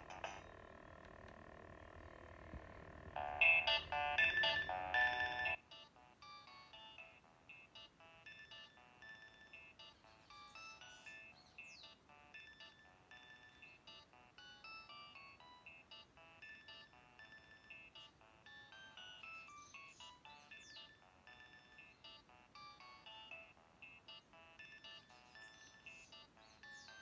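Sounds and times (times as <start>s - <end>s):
mobile phone ringtone beeps: 3.2s - 26.9s.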